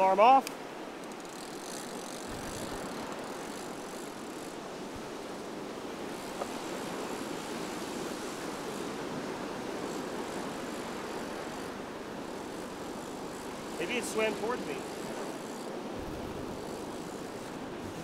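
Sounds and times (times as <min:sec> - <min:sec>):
ocean surf washing ashore: 0:00.0 - 0:18.0
wind noise on microphone: 0:01.6 - 0:18.0.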